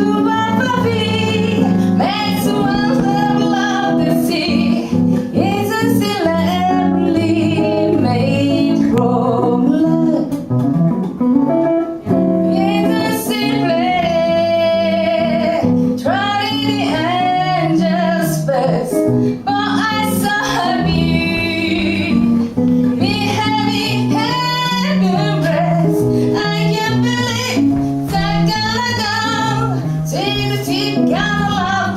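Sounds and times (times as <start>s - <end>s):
woman singing jazz song: 0.0s - 10.6s, 12.0s - 31.9s
guitar accompaniment: 0.0s - 31.9s.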